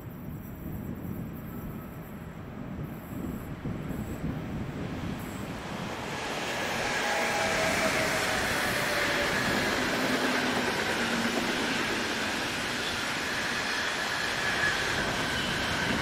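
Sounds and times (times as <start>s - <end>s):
electric train rolling past: 1.0s - 16.0s.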